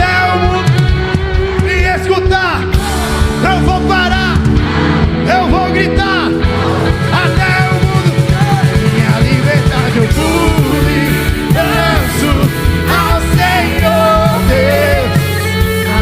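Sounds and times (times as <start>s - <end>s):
melodic lead line bending: 0.0s - 16.0s
rock band playing: 0.0s - 16.0s.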